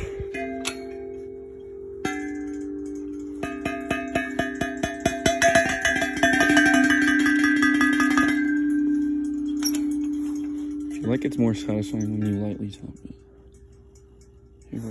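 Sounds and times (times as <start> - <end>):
playground chimes ringing: 0.0 - 14.2.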